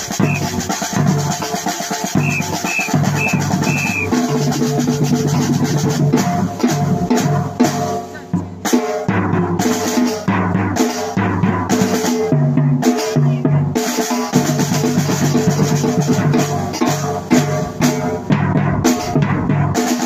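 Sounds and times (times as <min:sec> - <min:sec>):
music with drum kit and bass: 0:00.0 - 0:20.0.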